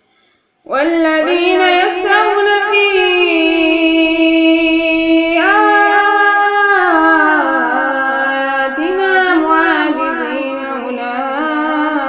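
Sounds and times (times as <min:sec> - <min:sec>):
woman reciting melodically: 0:00.6 - 0:12.0.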